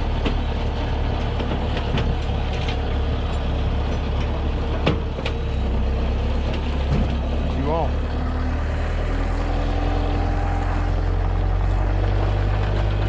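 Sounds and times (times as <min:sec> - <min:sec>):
diesel engine running under load: 0:00.0 - 0:13.0.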